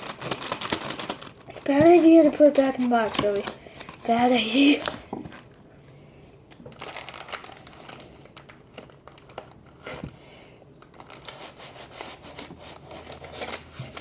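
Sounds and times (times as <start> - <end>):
packaging crinkling and rustling: 0.0 - 5.6, 6.5 - 10.2, 10.8 - 14.0.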